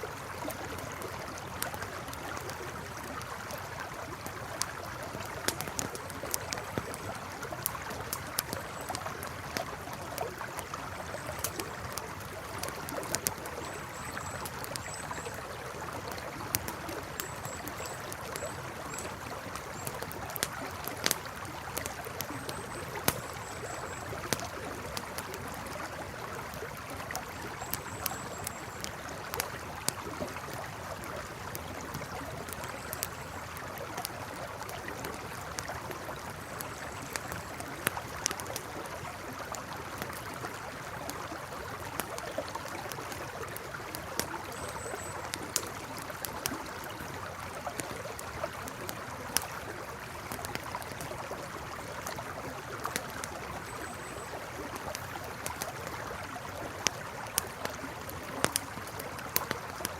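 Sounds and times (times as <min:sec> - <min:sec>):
campfire crackling and popping: 0:00.0 - 0:59.9
river flowing: 0:00.0 - 0:59.9.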